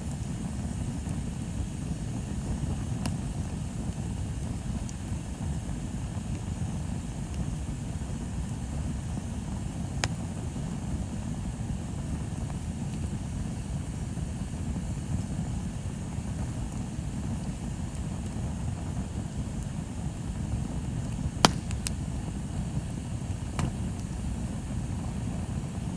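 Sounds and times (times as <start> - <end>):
bonfire low rumble: 0.0 - 25.9
fire crackling pop: 0.0 - 25.9.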